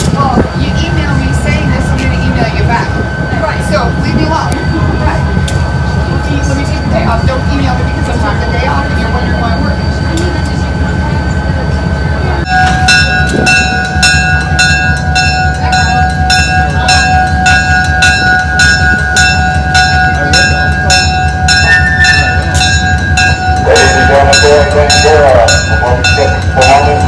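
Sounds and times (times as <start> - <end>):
diesel locomotive rumble: 0.0 - 27.0
locomotive bell ringing: 0.0 - 27.0.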